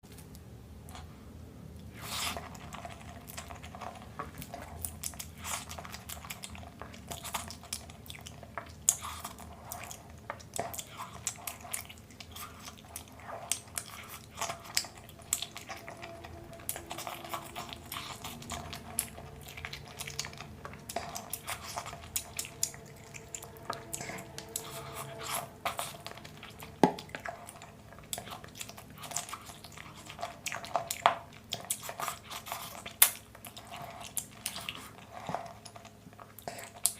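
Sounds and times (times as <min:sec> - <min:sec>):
person chewing food: 0:01.8 - 0:36.9.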